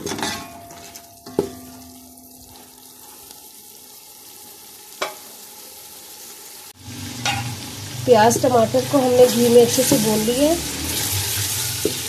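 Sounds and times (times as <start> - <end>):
ghee sizzling in pot: 0.0 - 12.0.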